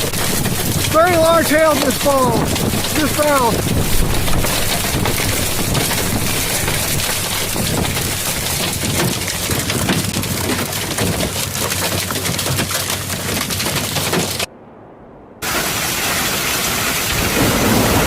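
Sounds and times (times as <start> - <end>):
hail and heavy rain falling: 0.0 - 14.5, 15.4 - 18.0.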